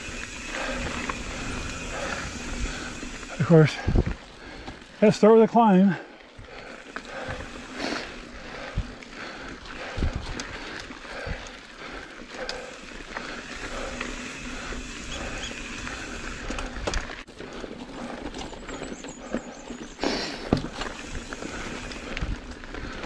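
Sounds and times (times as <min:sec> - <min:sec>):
bike knocking and rattling: 0:00.0 - 0:05.2, 0:06.4 - 0:23.0
bike tyres rolling over dirt: 0:00.0 - 0:23.0.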